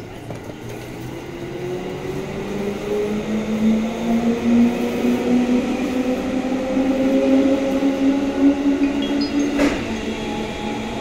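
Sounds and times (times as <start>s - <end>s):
train wheels on rails: 0.0s - 11.0s
electric train motors humming: 0.2s - 11.0s.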